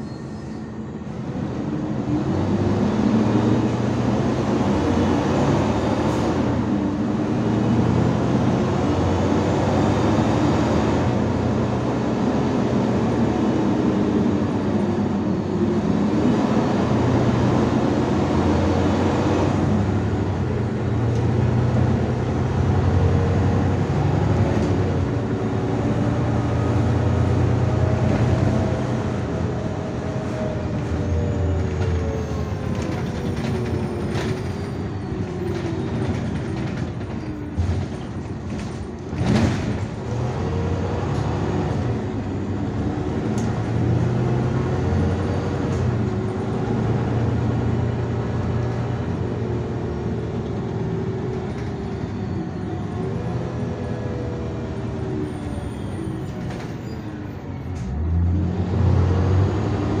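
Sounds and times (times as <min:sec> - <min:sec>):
bus engine hum and whine: 0:00.0 - 1:00.0.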